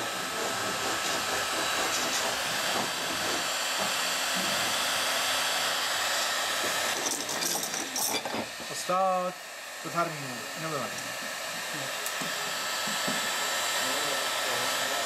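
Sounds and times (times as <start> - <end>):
heat gun blowing: 0.0 - 15.0.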